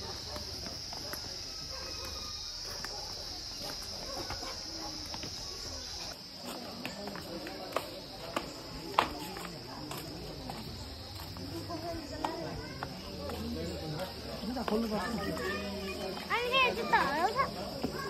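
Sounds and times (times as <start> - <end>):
insects chirring: 0.0 - 18.0
murmur of voices: 0.0 - 18.0.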